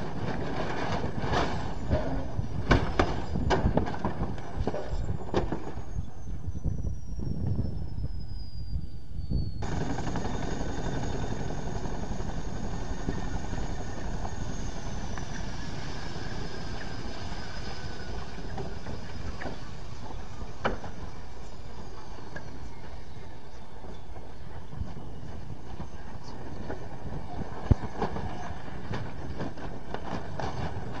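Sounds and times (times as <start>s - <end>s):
helicopter engine and rotor noise: 0.0s - 31.0s
high turbine whine: 0.0s - 31.0s.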